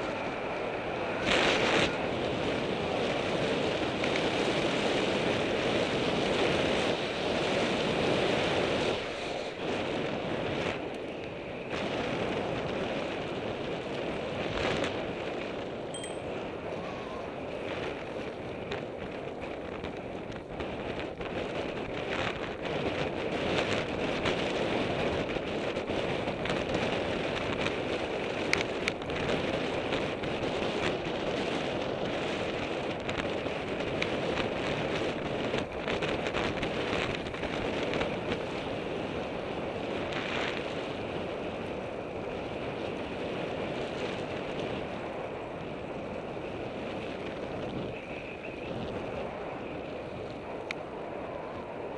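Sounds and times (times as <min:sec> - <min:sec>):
tyres rolling on road: 0:00.0 - 0:51.9
wind rushing over microphone: 0:00.0 - 0:51.9.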